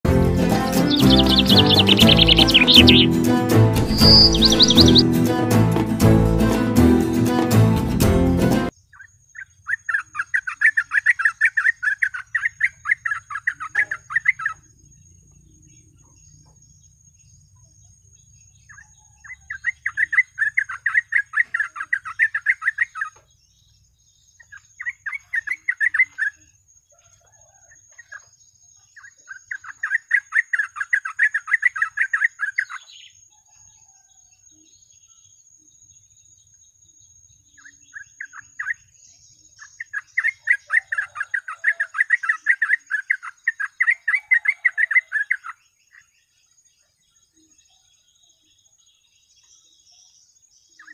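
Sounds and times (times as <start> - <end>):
bird chattering song: 0.7 - 3.2, 3.8 - 5.0, 8.7 - 35.7, 36.4 - 50.9.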